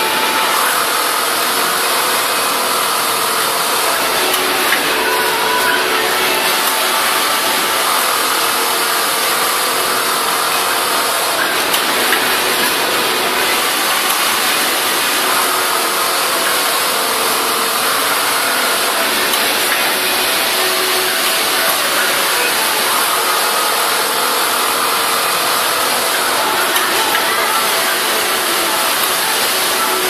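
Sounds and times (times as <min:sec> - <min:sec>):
sewing machines whirring: 0:00.0 - 0:30.0.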